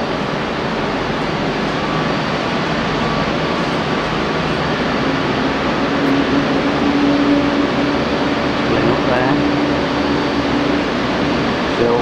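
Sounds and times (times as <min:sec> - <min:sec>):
industrial machine noise: 0:00.0 - 0:12.0
low hum: 0:00.0 - 0:12.0.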